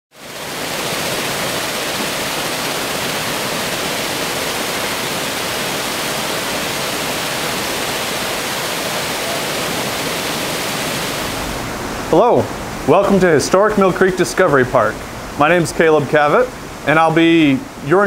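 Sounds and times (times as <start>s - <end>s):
flowing water rushing: 0.1s - 18.0s.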